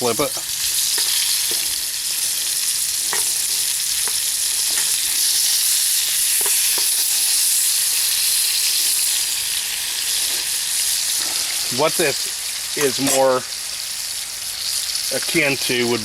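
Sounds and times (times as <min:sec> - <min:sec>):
food sizzling in a hot pan: 0:00.0 - 0:16.0.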